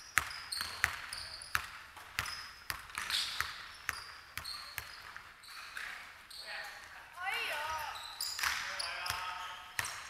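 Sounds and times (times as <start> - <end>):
basketball bouncing on wooden floor: 0.0 - 6.0, 7.7 - 10.0
sneakers squeaking on floor: 0.0 - 10.0.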